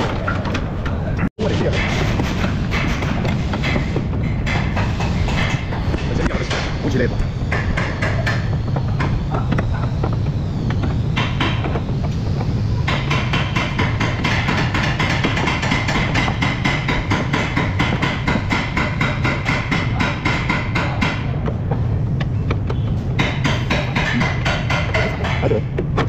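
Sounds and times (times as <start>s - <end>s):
low workshop hum: 0.0s - 26.0s
rapid knocking on metal: 1.8s - 6.8s, 7.4s - 26.0s.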